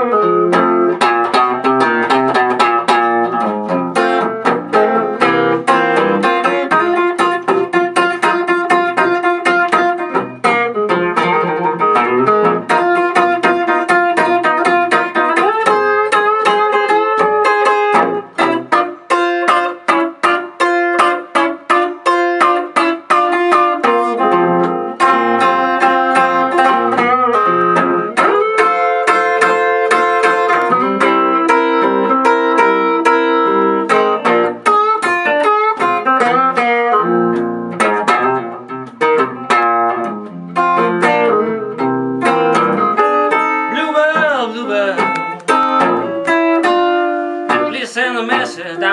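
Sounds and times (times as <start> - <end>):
blues guitar playing: 0.0 - 48.9.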